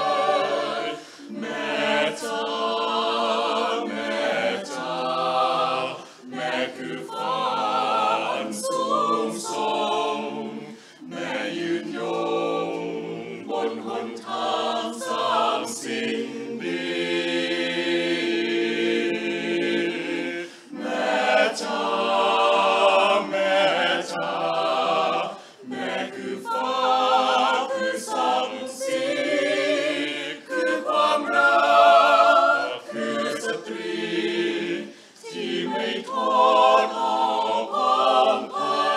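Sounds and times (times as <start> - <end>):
choir singing a cappella: 0.0 - 38.9.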